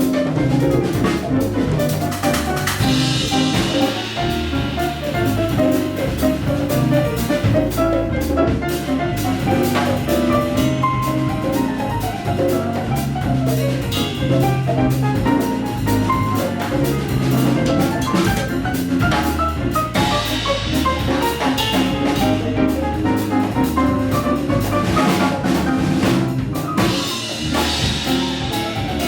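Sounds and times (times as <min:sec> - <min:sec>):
bass: 0:00.0 - 0:29.0
drum kit: 0:00.0 - 0:29.0
hand percussion: 0:00.0 - 0:29.0
piano: 0:00.0 - 0:29.0.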